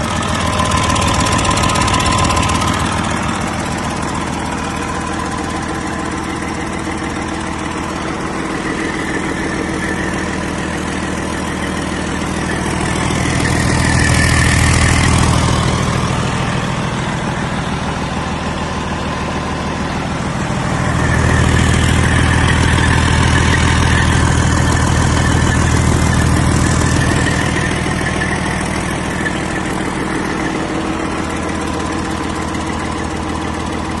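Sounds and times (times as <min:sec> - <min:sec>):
diesel engine idling and revving: 0:00.0 - 0:34.0.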